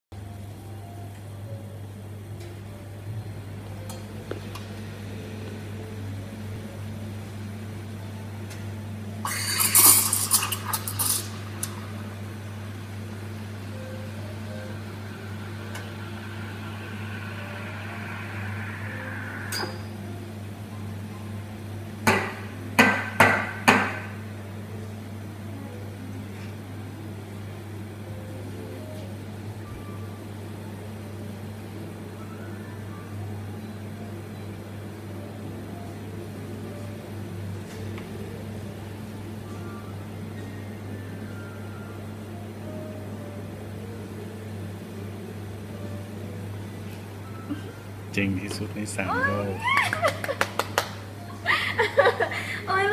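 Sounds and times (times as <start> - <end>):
espresso machine humming: 0.4 - 28.6, 33.8 - 50.4.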